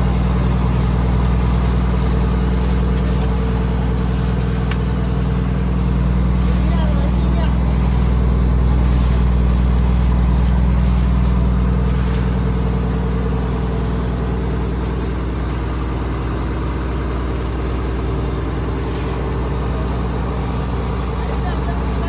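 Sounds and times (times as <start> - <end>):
diesel boat engine droning: 0.0 - 22.0
high engine whine: 0.0 - 22.0.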